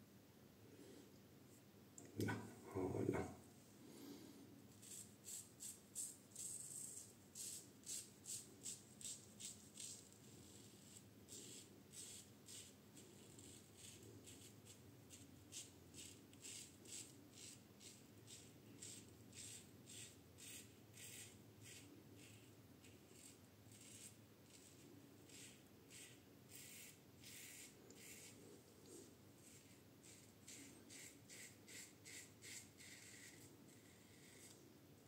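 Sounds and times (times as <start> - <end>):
razor shaving strokes: 4.8 - 34.6.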